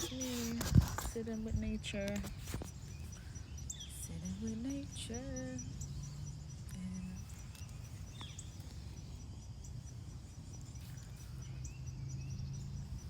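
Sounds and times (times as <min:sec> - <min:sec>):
bird chirps: 0:00.0 - 0:13.0
insect trilling: 0:00.0 - 0:13.0
low steady rumble: 0:00.0 - 0:13.0.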